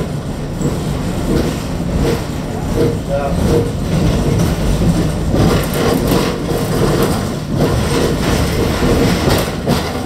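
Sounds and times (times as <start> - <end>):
tram wheels rumbling: 0.0 - 10.0
knocks and rattles: 0.5 - 10.0.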